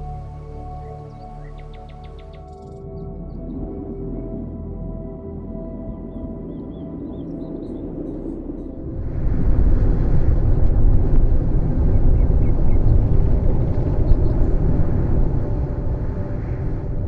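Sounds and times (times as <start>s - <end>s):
faint musical drone: 0.0s - 17.0s
low rumbling noise: 2.8s - 17.0s.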